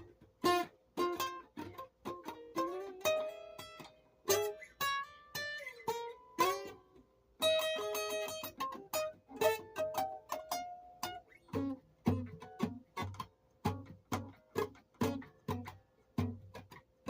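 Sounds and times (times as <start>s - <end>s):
plucked guitar-like music with bass: 0.0s - 17.0s.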